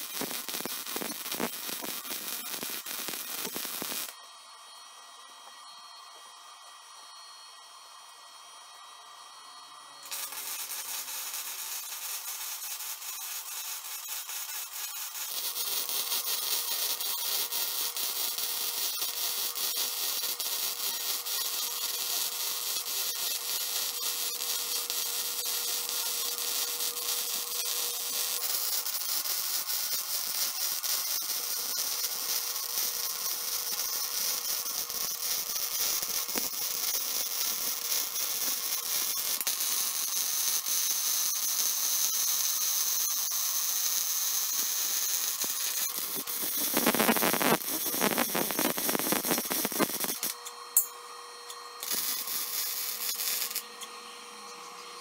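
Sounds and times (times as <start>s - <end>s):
welding arc crackling: 0.0s - 4.2s, 10.1s - 50.9s, 51.8s - 53.8s.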